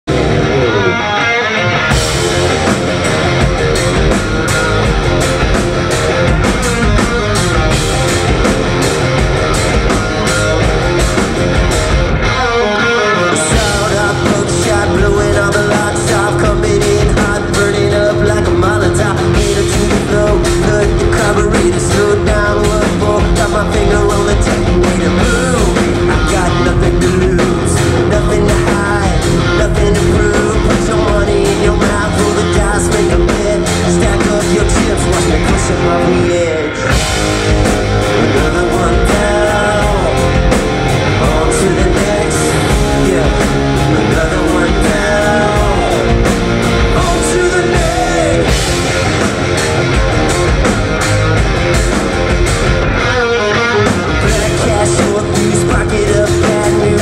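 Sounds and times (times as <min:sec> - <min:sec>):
bass guitar: 0:00.0 - 0:57.0
drums: 0:00.0 - 0:57.0
electric guitars: 0:00.0 - 0:57.0.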